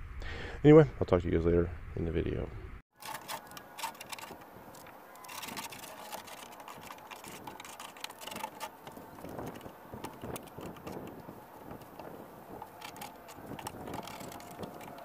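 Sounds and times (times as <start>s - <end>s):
hand scraper scraping paint: 3.0s - 15.0s.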